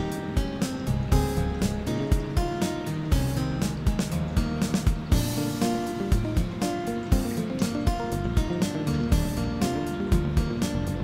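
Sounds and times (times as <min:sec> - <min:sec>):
held melodic notes: 0:00.0 - 0:11.0
steady low drum beat: 0:00.0 - 0:11.0.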